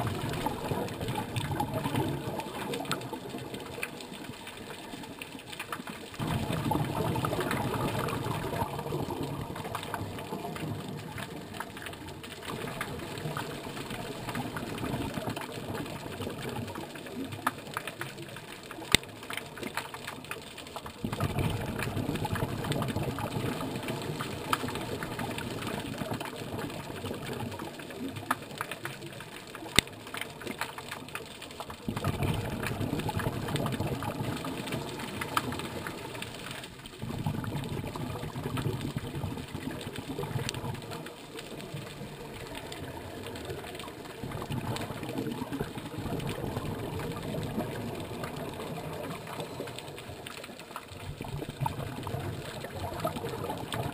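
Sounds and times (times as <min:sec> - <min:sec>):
crackle of clicks: 0:00.0 - 0:53.9
underwater exhaled bubbles rumbling: 0:00.0 - 0:53.9.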